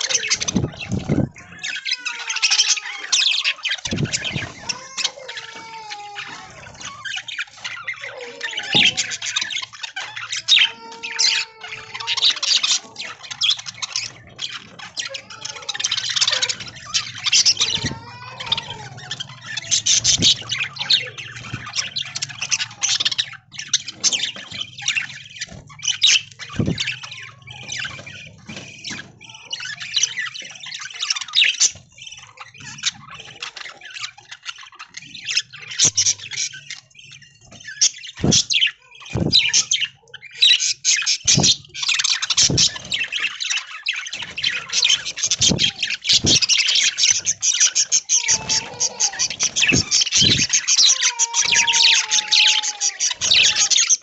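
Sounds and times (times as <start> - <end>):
budgerigars chattering and squawking: 0.0 - 54.0.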